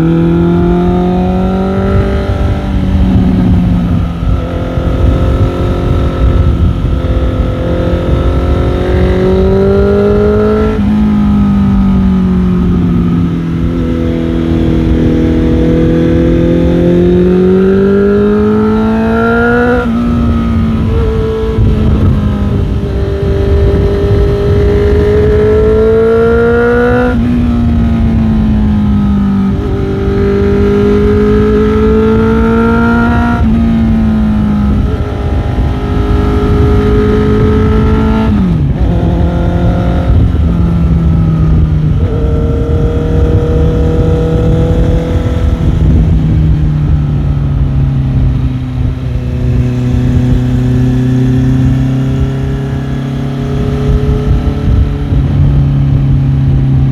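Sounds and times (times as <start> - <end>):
low wind noise rumble: 0.0 - 56.9
motorcycle engine accelerating: 0.0 - 56.9.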